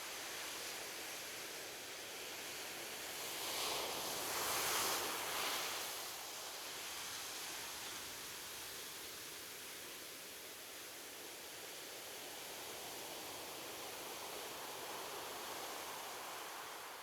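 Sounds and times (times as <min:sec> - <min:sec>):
steady hiss of sea: 0:01.4 - 0:17.0.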